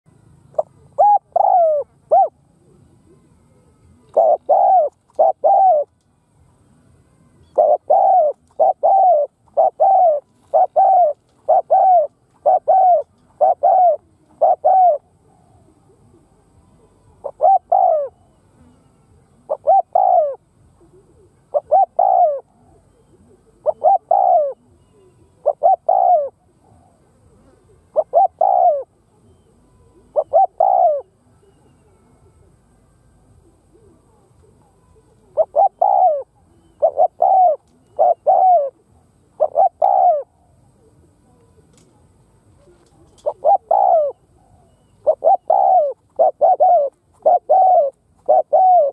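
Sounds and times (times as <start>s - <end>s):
dove cooing: 0.4s - 6.0s, 7.4s - 48.9s.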